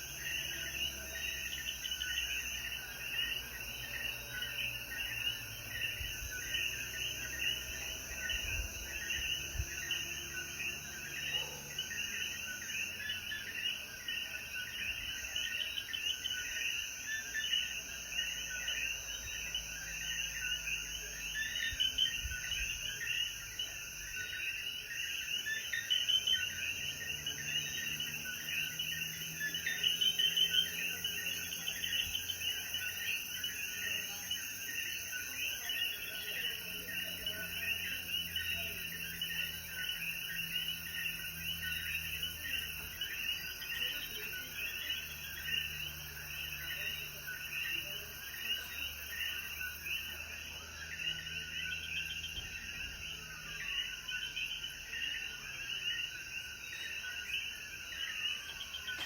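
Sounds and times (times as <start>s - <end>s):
faint high insect tone: 0.0s - 59.0s
frogs calling: 0.0s - 59.0s.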